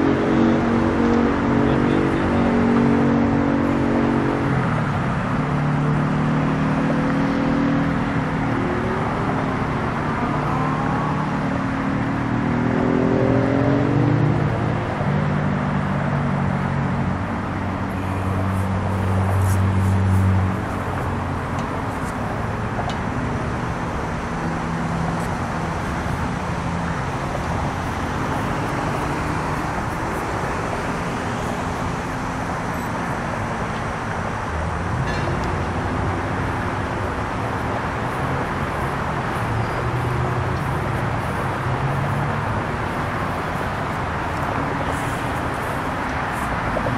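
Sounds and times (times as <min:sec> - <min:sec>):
heavy engine droning: 0:00.0 - 0:46.9
roadway traffic hum: 0:00.0 - 0:46.9.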